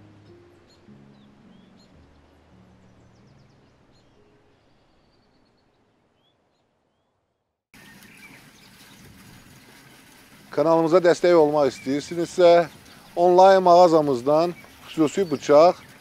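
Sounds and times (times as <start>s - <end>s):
outdoor background hiss: 0.0s - 7.0s, 9.4s - 16.0s
faint birdsong: 0.2s - 16.0s.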